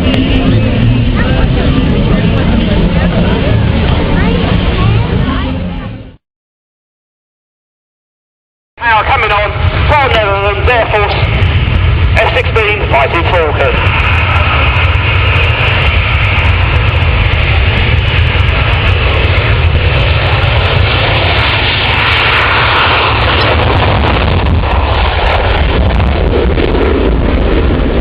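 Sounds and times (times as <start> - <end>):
loud aircraft engine: 0.0 - 6.2, 8.8 - 28.0.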